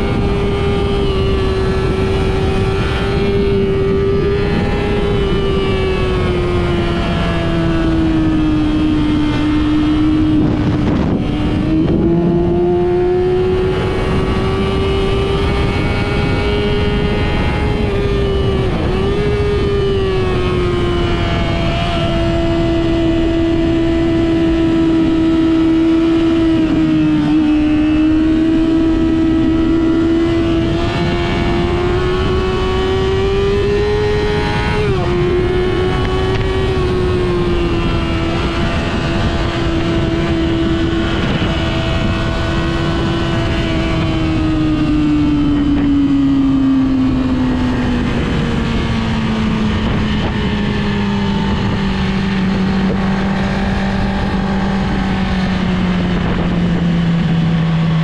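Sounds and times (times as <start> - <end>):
car engine running hard: 0.0 - 58.0
road and wind noise: 0.0 - 58.0.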